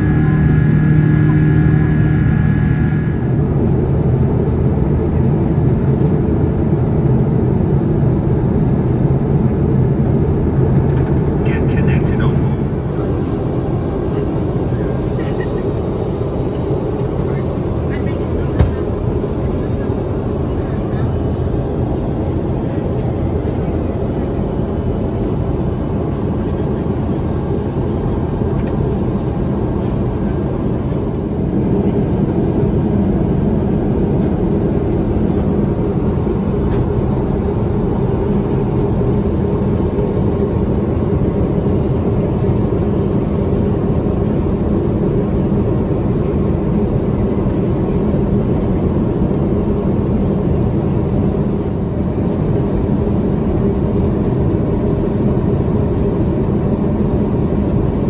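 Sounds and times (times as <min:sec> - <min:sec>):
airplane cabin noise in flight: 0:00.0 - 0:58.0.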